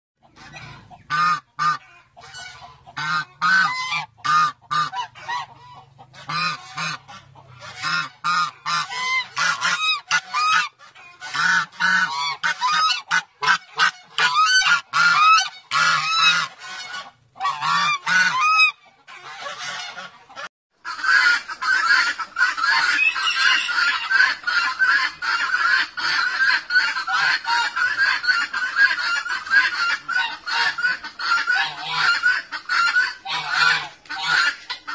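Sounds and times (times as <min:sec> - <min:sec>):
goose honking: 0:00.2 - 0:34.9
rapid fowl calls: 0:00.2 - 0:34.9.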